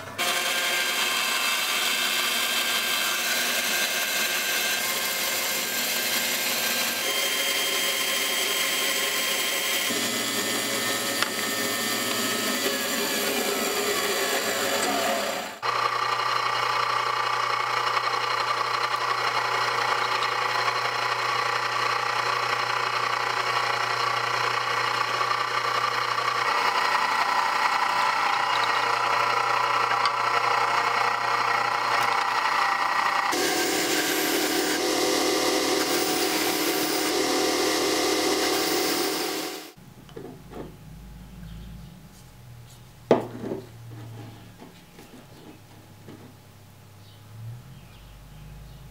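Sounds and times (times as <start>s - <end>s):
drill press cutting steel: 0.0s - 39.8s.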